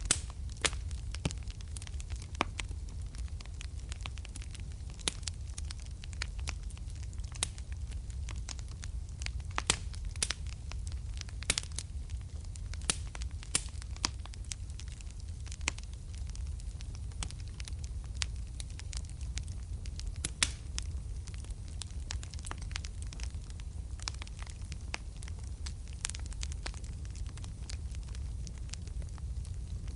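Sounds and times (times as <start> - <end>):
wood fire burning: 0.0 - 29.9.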